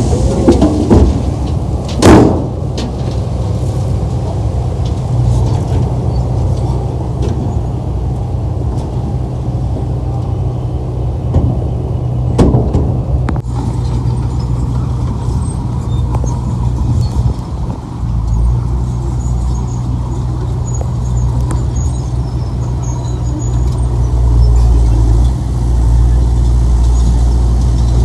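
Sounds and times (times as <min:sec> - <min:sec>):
heavy diesel machinery engine drone: 0:00.0 - 0:28.0.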